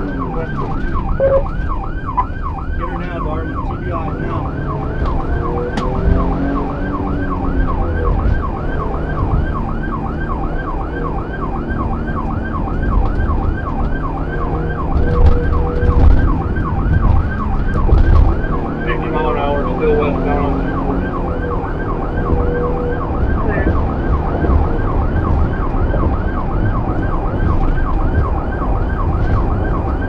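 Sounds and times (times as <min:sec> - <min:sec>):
car engine and road rumble: 0:00.0 - 0:30.0
police siren yelping: 0:00.0 - 0:30.0.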